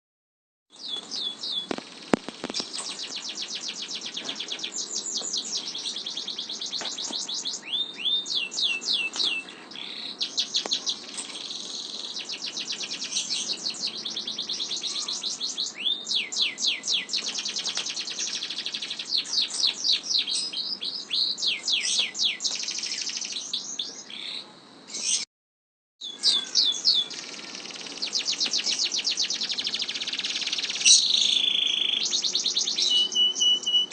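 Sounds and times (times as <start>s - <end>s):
canary singing trills: 0.7s - 25.2s, 26.0s - 33.9s.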